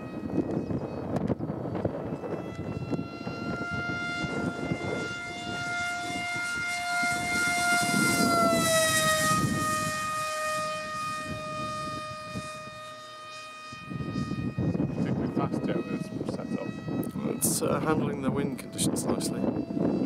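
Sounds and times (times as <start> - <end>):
model plane motor whining: 0.0 - 20.0.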